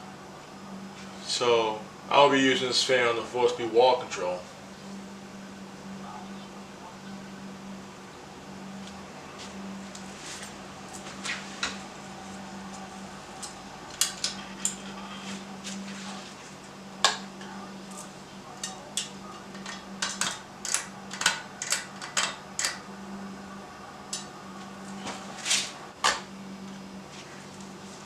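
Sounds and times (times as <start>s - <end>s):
ceiling fan motor humming: 0.0s - 28.0s.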